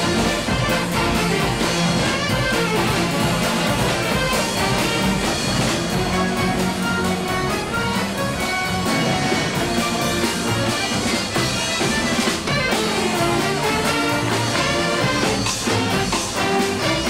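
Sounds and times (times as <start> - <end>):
string band playing marching tune: 0.0 - 17.0.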